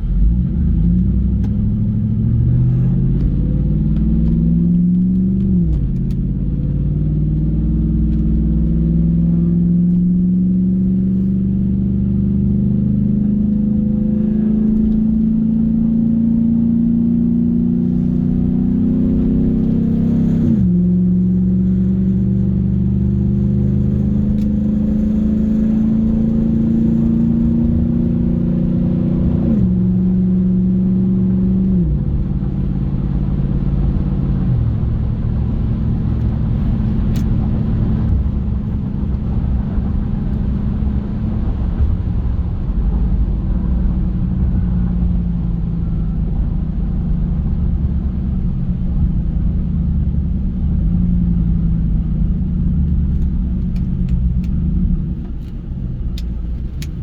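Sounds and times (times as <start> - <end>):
pickup engine exhaust rumble: 0.0 - 57.0.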